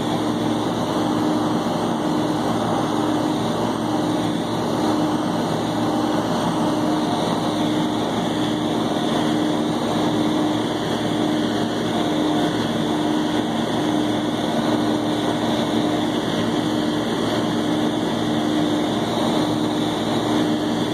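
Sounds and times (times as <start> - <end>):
diesel tractor engine under load: 0.0 - 20.9.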